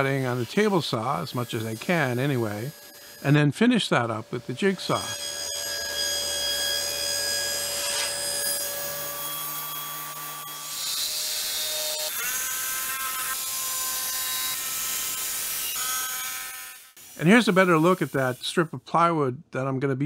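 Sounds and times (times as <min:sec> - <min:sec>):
table saw drone: 0:00.0 - 0:03.4, 0:04.0 - 0:18.1.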